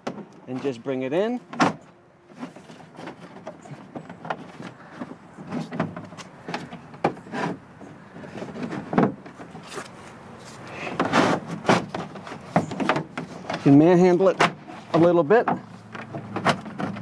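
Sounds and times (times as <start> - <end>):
stiff plastic knocking and scraping: 1.5 - 10.0, 10.8 - 17.0.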